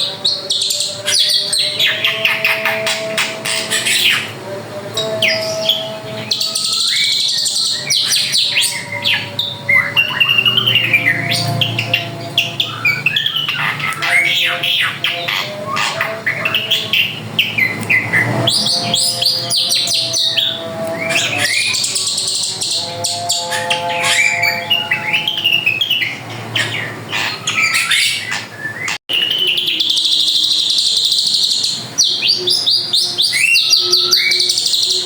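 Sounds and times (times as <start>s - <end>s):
bird chattering song: 5.0s - 35.0s.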